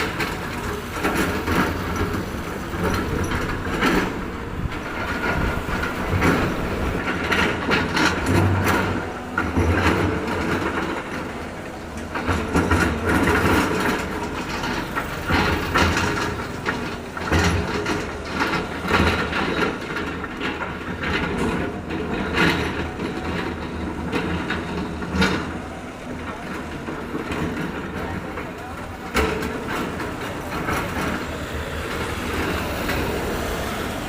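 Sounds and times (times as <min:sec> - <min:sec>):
metal clanks and knocks: 0:00.0 - 0:33.8
construction machinery engine hum: 0:00.0 - 0:34.0.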